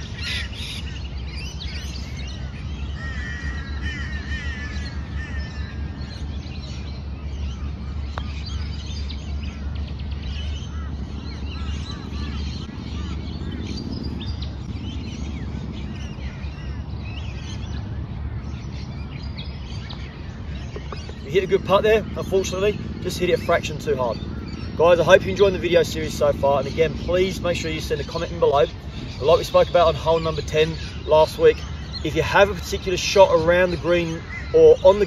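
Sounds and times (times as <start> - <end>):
birds chirping and calling: 0.0 - 35.0
low outdoor rumble: 0.0 - 35.0.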